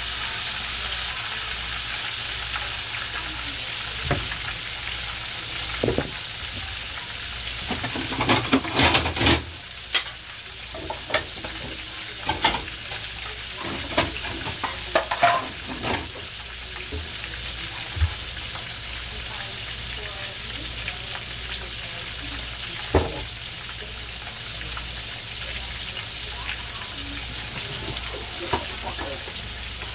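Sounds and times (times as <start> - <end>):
chicken frying in oil: 0.0 - 29.9
oil popping and crackling: 1.6 - 19.0, 20.5 - 29.9.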